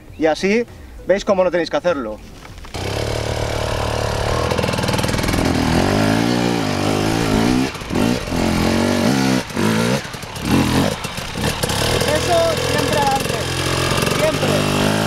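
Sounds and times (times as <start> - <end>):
motorcycle engine revving: 2.7 - 15.0.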